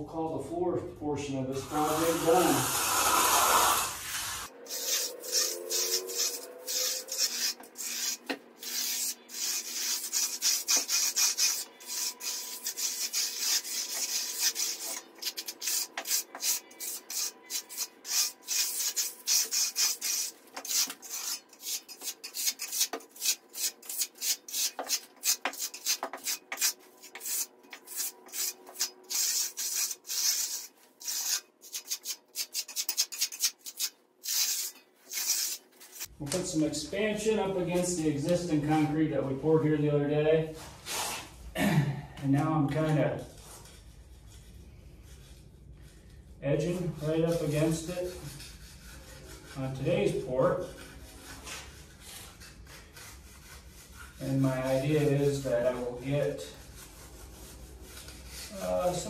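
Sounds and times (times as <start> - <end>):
trowel scraping wet concrete: 1.5 - 38.8, 46.5 - 59.0.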